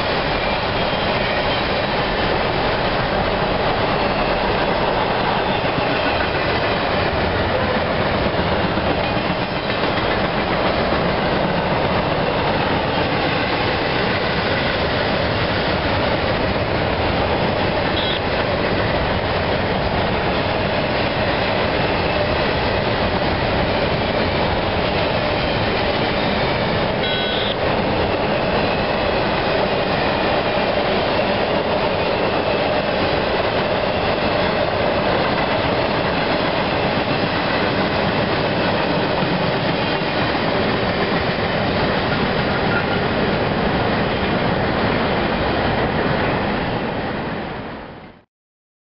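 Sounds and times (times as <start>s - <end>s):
train wheels rumbling on rail: 0.0s - 48.2s.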